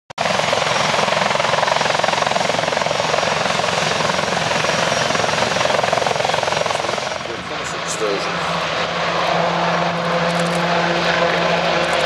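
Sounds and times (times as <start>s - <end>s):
helicopter rotor and propeller noise: 0.2s - 12.0s.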